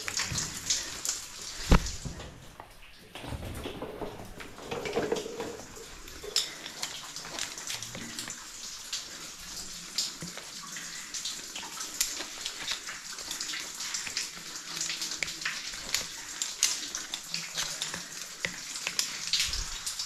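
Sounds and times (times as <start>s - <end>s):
hiss of falling water: 0.0s - 2.4s, 5.3s - 20.0s.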